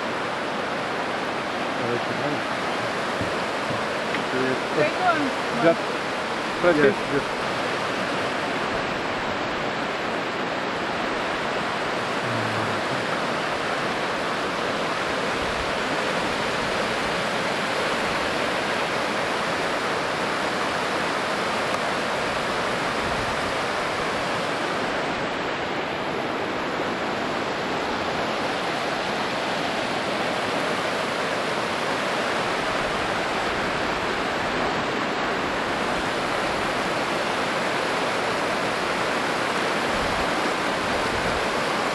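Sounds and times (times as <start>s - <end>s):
river rushing over rapids: 0.0s - 41.9s.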